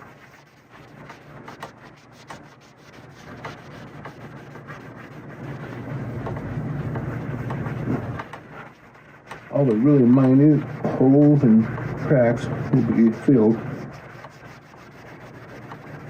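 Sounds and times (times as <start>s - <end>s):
scratchy rubbing on wood: 0.0s - 16.0s
steady low hum: 0.0s - 16.0s.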